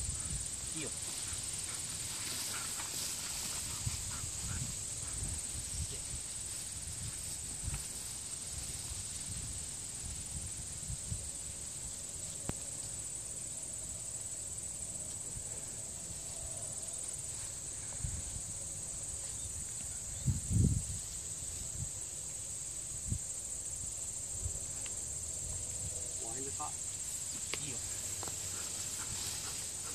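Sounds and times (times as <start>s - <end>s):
chorus of field insects: 0.0s - 29.9s.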